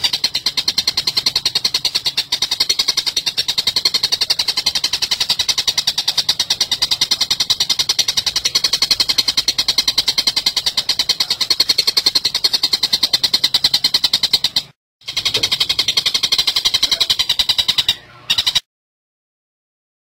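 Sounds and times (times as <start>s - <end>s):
bird harsh rapid chattering: 0.0s - 18.7s.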